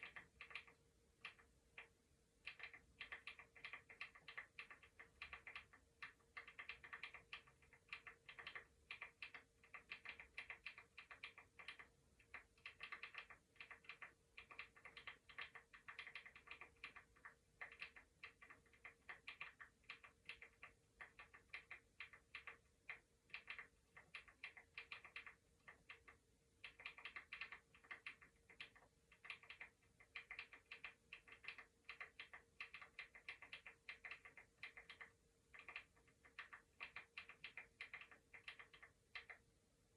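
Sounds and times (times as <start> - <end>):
faint steady hum: 0.0 - 39.9
keyboard typing: 0.0 - 39.9.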